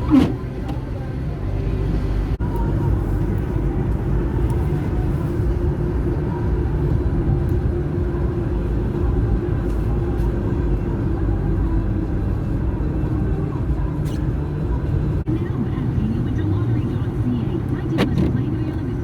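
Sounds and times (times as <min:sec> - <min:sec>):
constant low drone: 0:00.0 - 0:18.9
car engine and tyres rumbling: 0:00.0 - 0:19.0.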